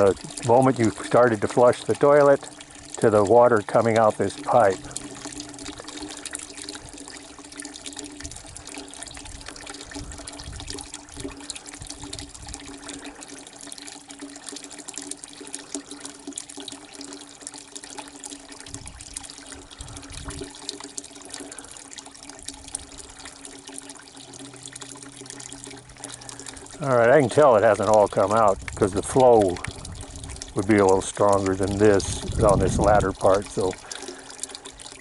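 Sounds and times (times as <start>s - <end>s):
water trickling into a bucket: 0.0s - 35.0s.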